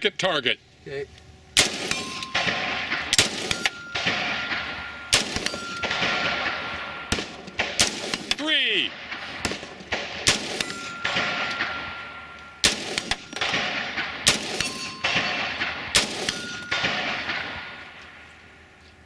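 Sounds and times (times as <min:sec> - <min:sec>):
steel targets ringing: 0:01.6 - 0:18.3
rifle shots echoing: 0:01.6 - 0:18.4.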